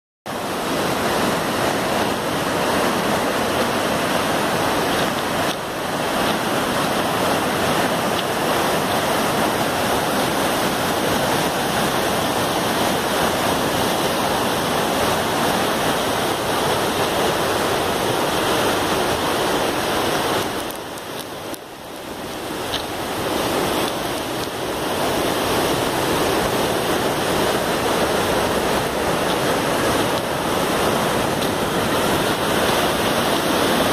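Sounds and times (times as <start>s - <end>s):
river rapids rushing: 0.3s - 33.9s.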